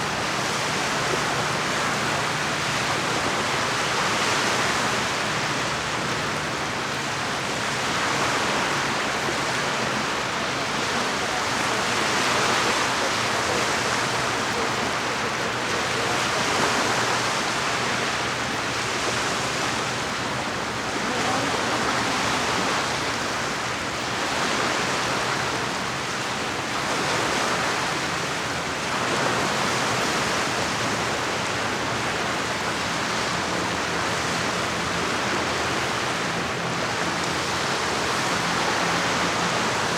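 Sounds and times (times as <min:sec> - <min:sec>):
lake waves washing on shore: 0:00.0 - 0:39.9.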